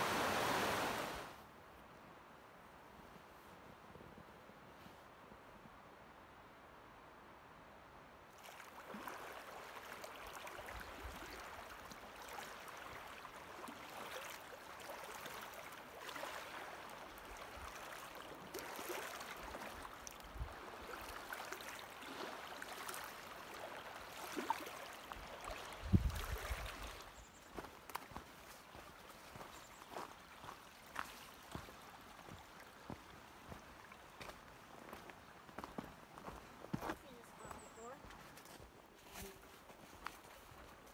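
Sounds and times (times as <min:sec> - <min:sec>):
stream water rushing: 0:00.0 - 0:01.4, 0:08.3 - 0:40.9.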